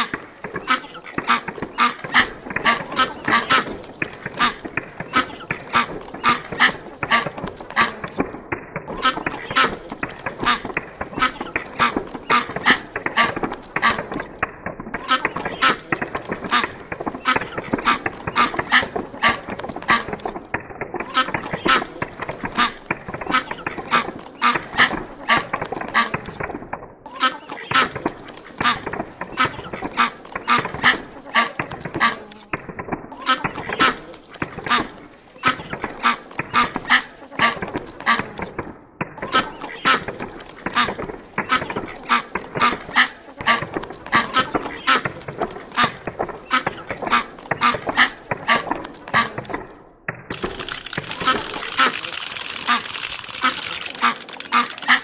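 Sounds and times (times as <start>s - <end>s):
ducks quacking: 0.0s - 49.7s, 50.3s - 55.0s.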